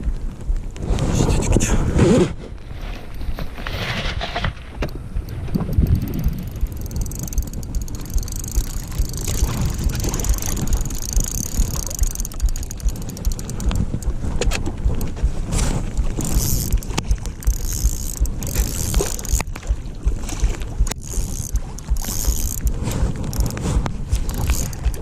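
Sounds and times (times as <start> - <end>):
inflatable boat on water: 0.0 - 25.0
wind buffeting microphone: 0.0 - 25.0
sharp clicks and knocks: 4.4 - 19.8, 20.4 - 25.0.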